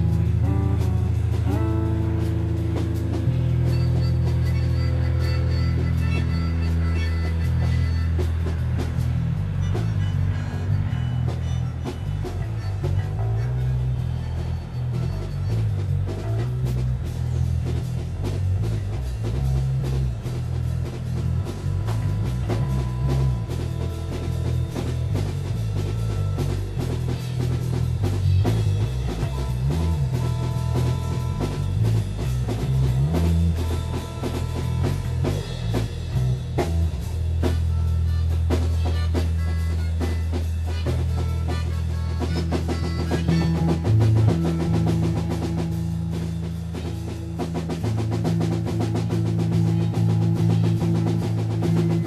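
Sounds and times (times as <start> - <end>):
drum kit groove: 0.0 - 52.0
electric bass line: 0.0 - 52.0.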